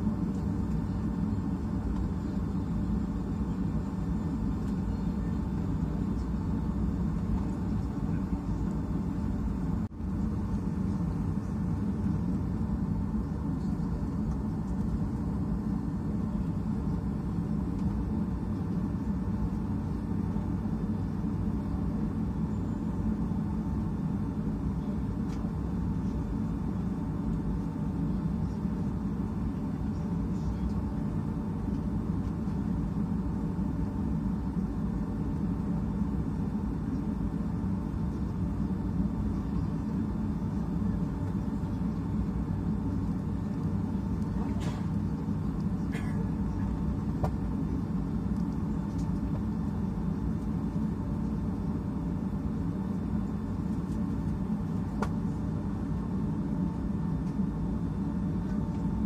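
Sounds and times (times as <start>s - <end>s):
airliner cabin rumble: 0.0s - 59.0s
faint steady hum: 0.0s - 59.0s.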